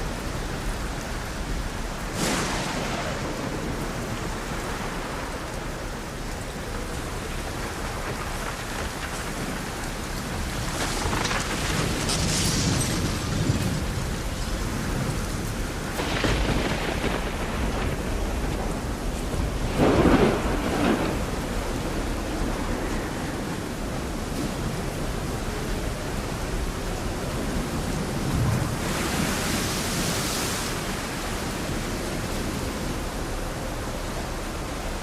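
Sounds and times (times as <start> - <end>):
thunder rumbling: 0.0 - 29.6
heavy rain: 0.0 - 35.0.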